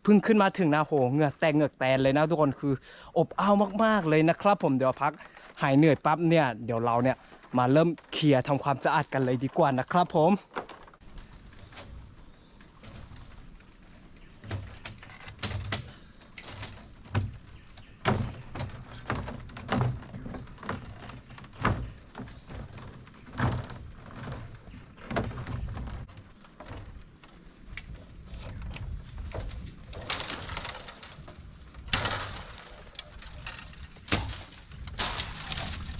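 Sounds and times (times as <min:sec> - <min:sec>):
insects droning: 0:00.0 - 0:35.9
wood knocking and creaking: 0:03.3 - 0:35.9.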